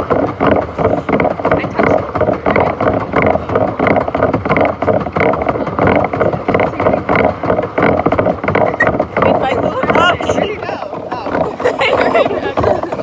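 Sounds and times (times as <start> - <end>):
paddle wheel churning water: 0.0 - 13.0
pedal drive knocking: 0.0 - 13.0.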